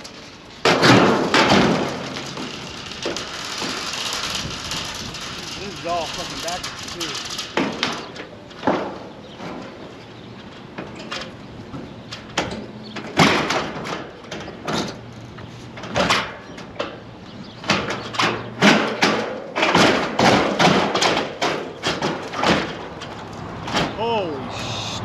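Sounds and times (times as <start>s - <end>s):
roofing thumps and scrapes: 0.0s - 9.8s, 10.6s - 24.0s.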